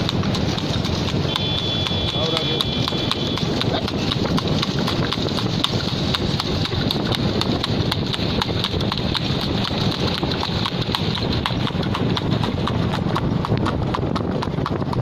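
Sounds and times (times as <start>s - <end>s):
horse hooves clip-clopping on asphalt: 0.0s - 15.0s.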